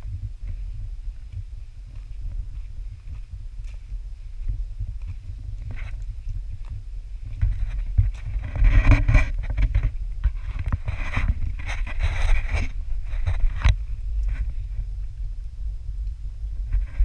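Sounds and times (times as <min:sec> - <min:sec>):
footsteps: 0:00.0 - 0:15.2
low wind rumble: 0:00.0 - 0:17.0
microphone handling noise: 0:00.0 - 0:17.0
rustling through undergrowth: 0:00.4 - 0:15.4.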